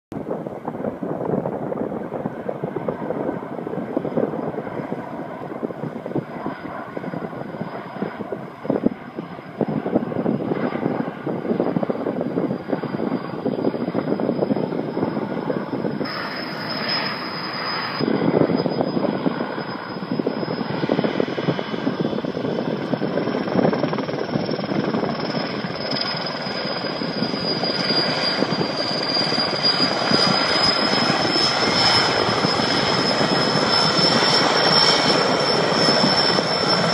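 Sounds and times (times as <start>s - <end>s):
helicopter rotor noise: 0.2s - 36.9s
helicopter turbine whine: 0.2s - 36.9s.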